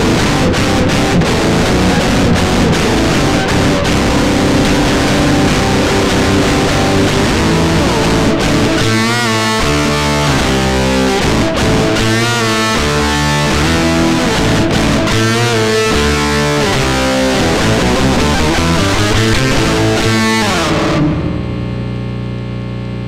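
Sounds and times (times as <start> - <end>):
distorted electric guitar rock music: 0.0 - 23.0.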